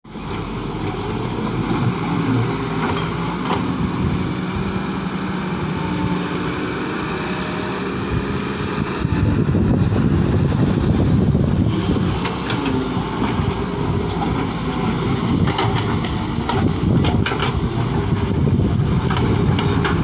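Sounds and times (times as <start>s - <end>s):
excavator diesel engine running: 0.1s - 20.0s.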